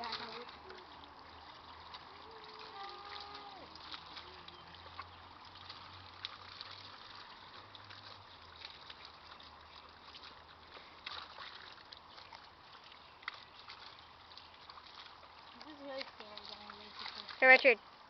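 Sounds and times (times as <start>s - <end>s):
garden hose spraying water: 0.0s - 17.8s
small splashes: 0.0s - 18.0s.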